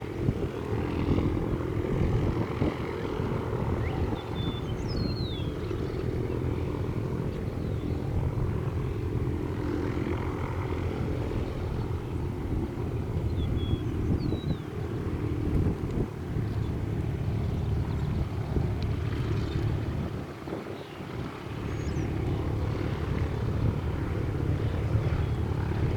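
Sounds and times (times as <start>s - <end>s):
airplane engine and propeller droning: 0.0s - 25.9s
wind rumble on microphone: 0.0s - 25.9s.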